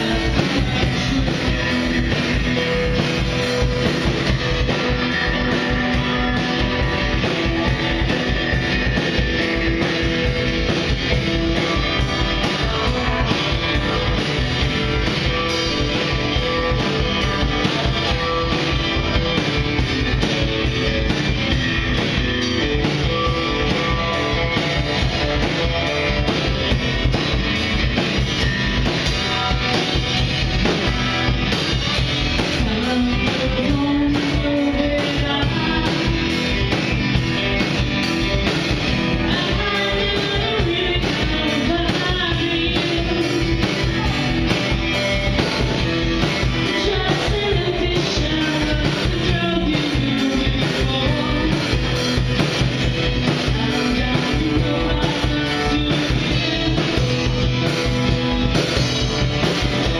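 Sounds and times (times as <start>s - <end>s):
drum kit beat: 0.0s - 59.9s
electric guitar: 0.0s - 59.9s.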